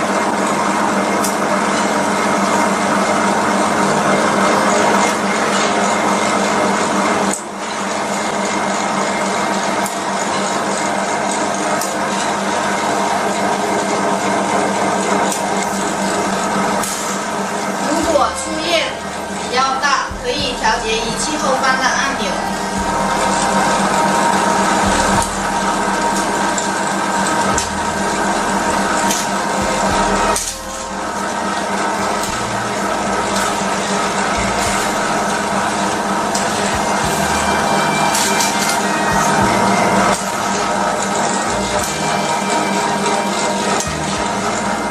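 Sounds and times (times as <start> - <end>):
suction pump humming and hissing: 0.0 - 44.9.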